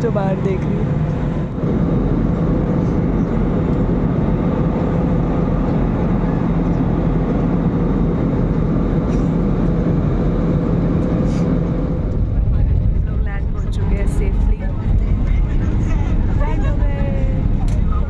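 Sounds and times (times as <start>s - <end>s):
airliner engine and airflow rumble: 0.0s - 18.0s
constant low hum: 0.0s - 18.0s.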